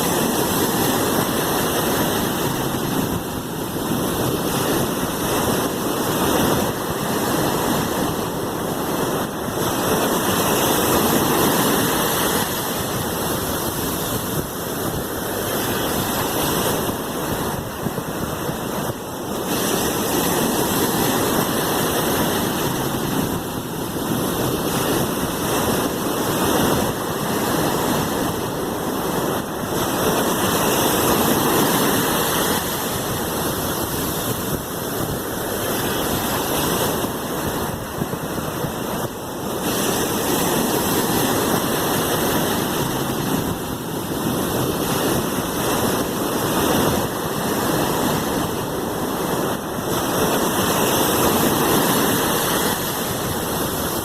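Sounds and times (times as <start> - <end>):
sea waves rushing: 0.0 - 54.0.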